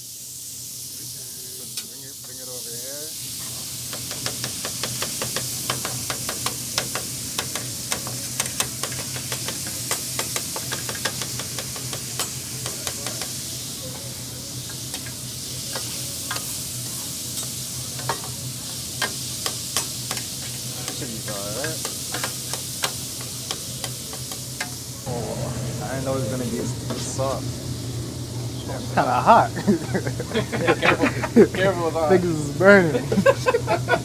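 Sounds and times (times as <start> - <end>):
meat sizzling on a grill: 0.0 - 34.0.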